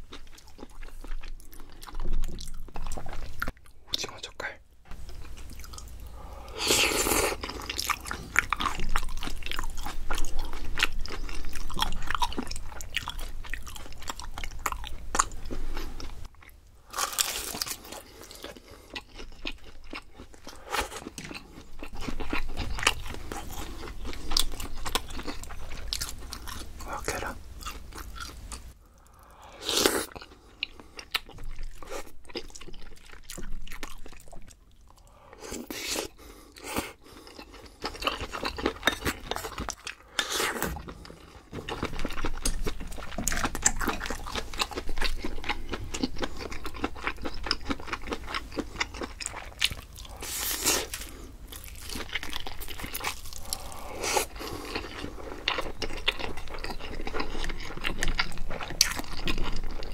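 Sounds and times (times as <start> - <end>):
close chewing and eating: 0.0 - 59.9.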